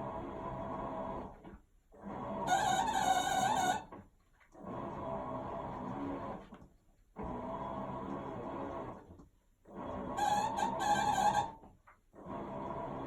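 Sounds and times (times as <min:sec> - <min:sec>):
washing machine running: 0:00.0 - 0:13.0
washing machine whine: 0:00.0 - 0:13.0.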